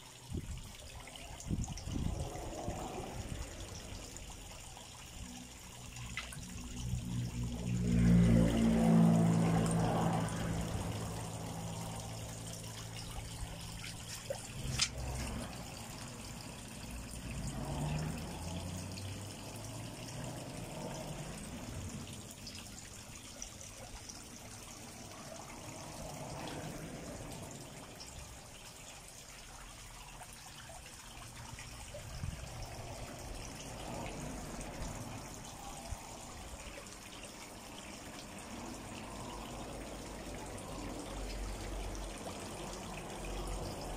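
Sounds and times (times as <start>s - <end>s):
water trickling and splashing: 0.0s - 43.9s.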